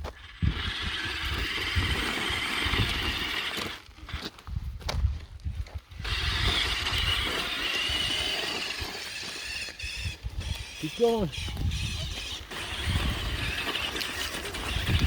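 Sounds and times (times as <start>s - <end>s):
small electric motor whining: 0.0s - 4.3s, 6.0s - 15.0s.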